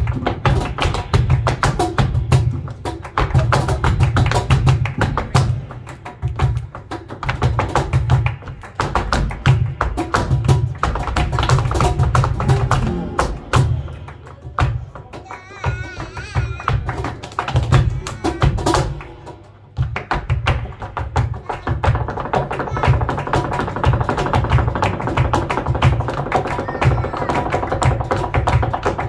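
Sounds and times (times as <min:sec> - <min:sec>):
flamenco guitar: 0:00.0 - 0:29.0
sharp hand-clapping: 0:00.0 - 0:29.0.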